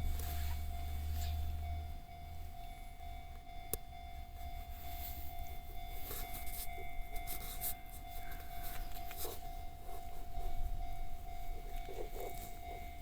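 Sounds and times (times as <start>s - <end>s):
level-crossing alarm ringing: 0.0s - 13.0s.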